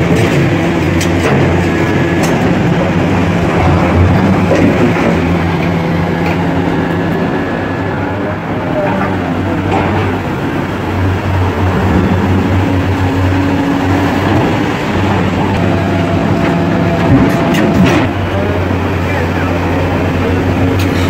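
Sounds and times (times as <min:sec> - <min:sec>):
diesel excavator engine drone: 0:00.0 - 0:21.0
hydraulic whine: 0:00.0 - 0:21.0.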